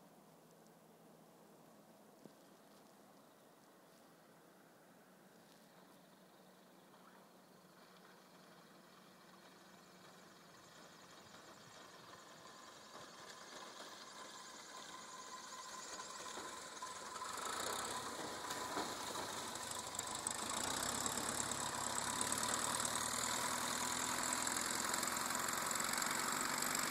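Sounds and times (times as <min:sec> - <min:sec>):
light aircraft engine and propeller: 0:02.3 - 0:26.9.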